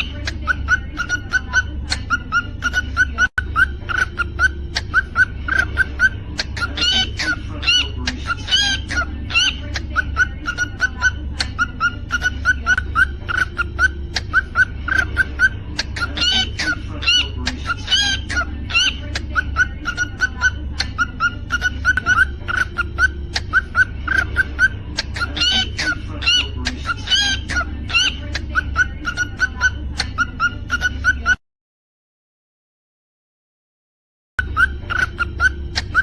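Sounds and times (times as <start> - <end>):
steady low hum: 0.0 - 30.7
cockatiel chirping: 0.0 - 31.4, 34.4 - 36.0.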